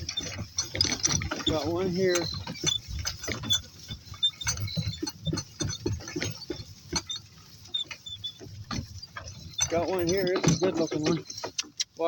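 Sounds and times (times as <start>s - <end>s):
cart clicking and rattling: 0.0s - 12.0s.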